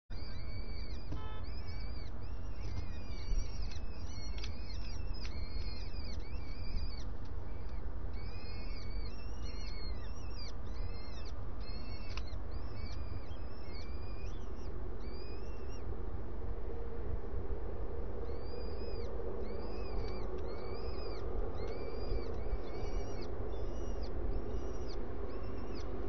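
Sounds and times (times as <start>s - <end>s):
low steady rumble: 0.1s - 26.0s
falcon chicks begging calls: 0.2s - 15.8s, 18.3s - 26.0s.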